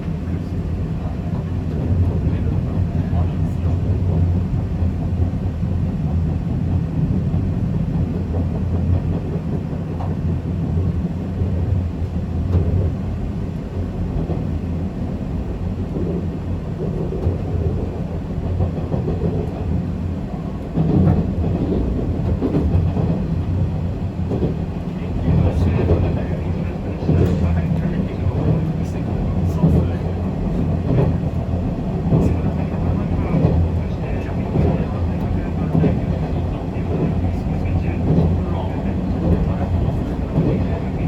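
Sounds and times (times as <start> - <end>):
train wheels rumbling on track: 0.0 - 41.0.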